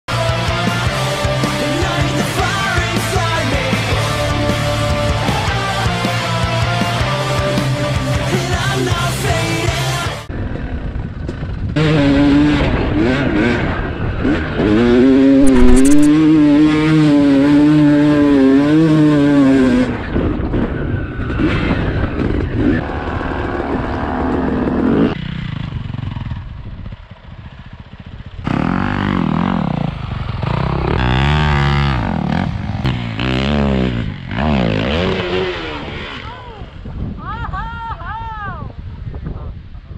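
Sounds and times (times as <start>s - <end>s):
dirt bike engines revving: 0.1s - 10.6s, 11.7s - 36.9s.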